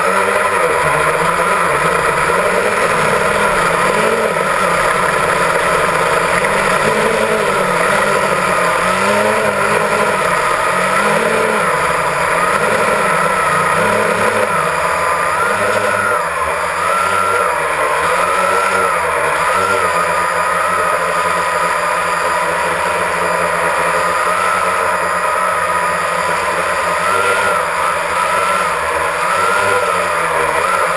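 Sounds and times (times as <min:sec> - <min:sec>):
drone propellers whirring: 0:00.0 - 0:30.9.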